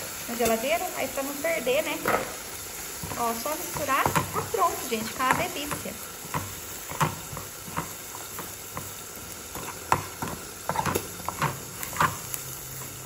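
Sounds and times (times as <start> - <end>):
faint sizzle: 0.0 - 13.0
metal spoon scraping a pan: 2.0 - 13.0.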